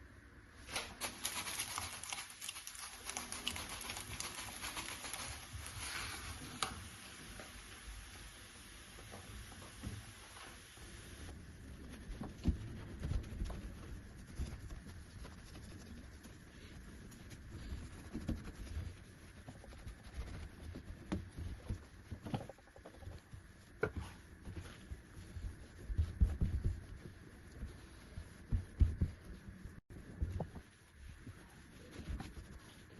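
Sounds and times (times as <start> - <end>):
household objects being handled: 0.6 - 7.6, 8.9 - 32.9.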